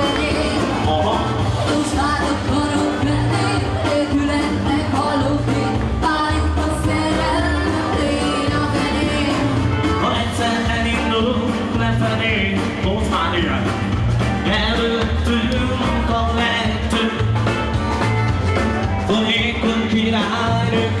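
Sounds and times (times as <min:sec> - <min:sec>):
person singing: 0:00.0 - 0:13.8, 0:14.4 - 0:18.0, 0:18.8 - 0:21.0
dance band playing rock and roll: 0:00.0 - 0:21.0.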